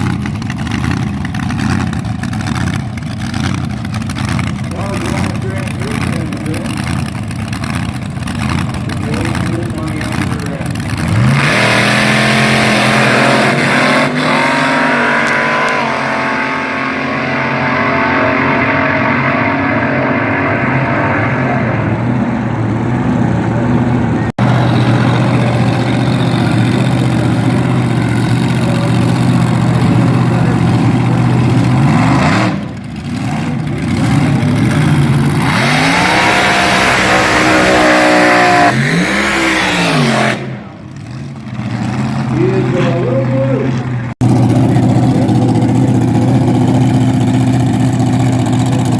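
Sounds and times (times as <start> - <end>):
dragster engine running loud: 0.0 - 48.9.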